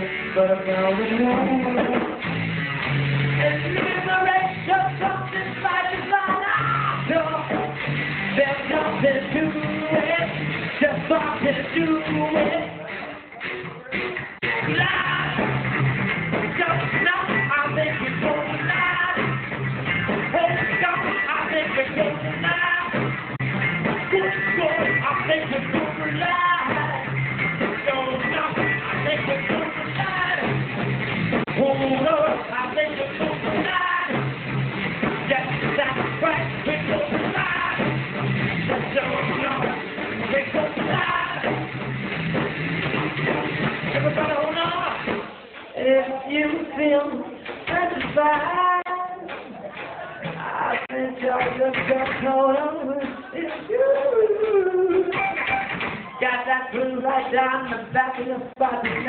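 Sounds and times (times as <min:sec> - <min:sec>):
bass guitar: 0:00.0 - 0:59.0
drums: 0:00.0 - 0:59.0
electric guitar: 0:00.0 - 0:59.0.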